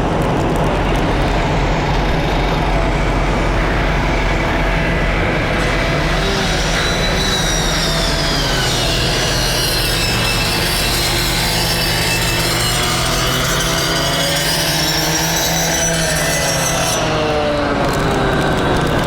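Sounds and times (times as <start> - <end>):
engine drone: 0.0 - 19.0
wavering high whine: 0.0 - 19.0
wind: 0.0 - 19.0.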